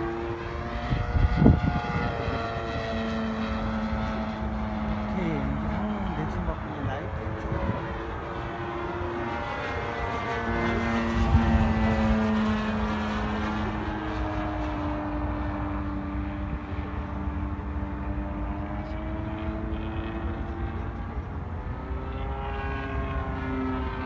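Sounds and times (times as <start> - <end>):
model airplane engine passing: 0.0 - 24.0.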